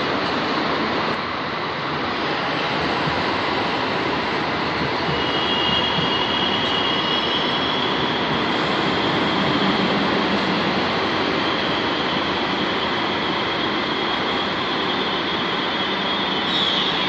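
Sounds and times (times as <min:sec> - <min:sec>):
train wheels on rail: 0:00.0 - 0:17.0
high steady squeal: 0:01.7 - 0:17.0.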